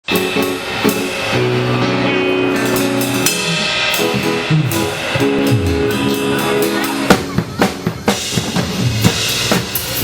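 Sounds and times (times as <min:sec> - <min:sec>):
drum kit playing: 0:00.0 - 0:10.0
cymbal and hi-hat strikes: 0:00.1 - 0:01.7, 0:02.4 - 0:07.3, 0:08.1 - 0:10.0
sustained low backing notes: 0:00.1 - 0:10.0.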